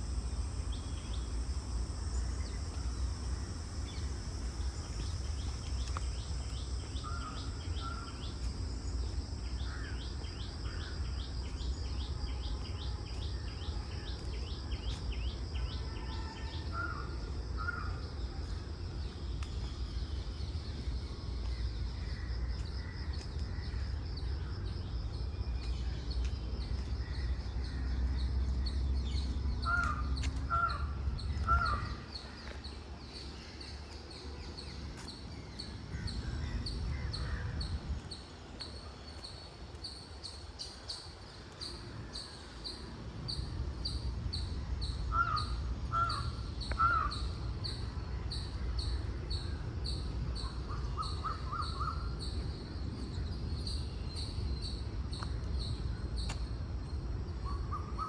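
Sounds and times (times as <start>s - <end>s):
constant low rumble: 0.0s - 58.0s
high insect drone: 0.0s - 58.0s.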